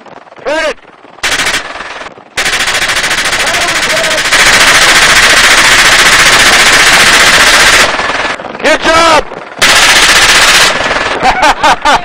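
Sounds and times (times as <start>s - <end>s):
machine gun automatic fire: 1.2s - 8.6s, 9.6s - 11.8s.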